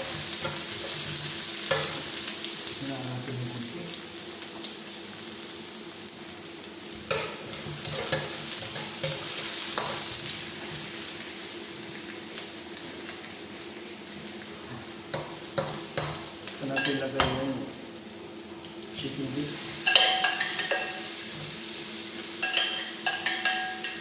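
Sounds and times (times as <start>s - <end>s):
garlic and onion sizzling in oil: 0.0s - 24.0s.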